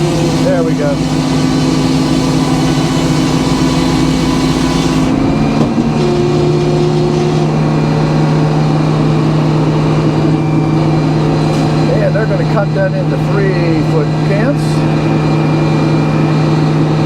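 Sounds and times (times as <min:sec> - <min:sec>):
sawmill engine running: 0:00.0 - 0:17.0.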